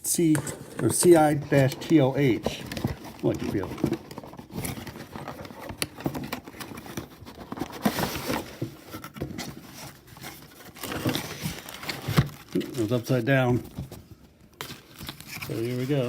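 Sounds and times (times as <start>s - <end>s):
cardboard and paper rustling: 0.2s - 16.0s.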